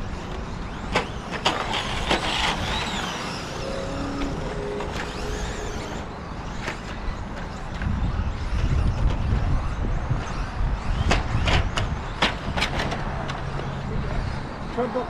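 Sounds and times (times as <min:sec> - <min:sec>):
toy trucks racing rumble: 0:00.0 - 0:15.0.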